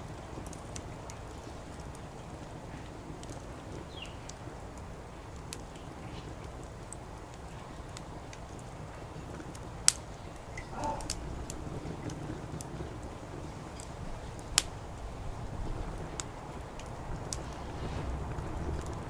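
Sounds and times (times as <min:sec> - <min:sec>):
low background rumble: 0:00.0 - 0:19.0
wood fire crackling: 0:00.0 - 0:19.0.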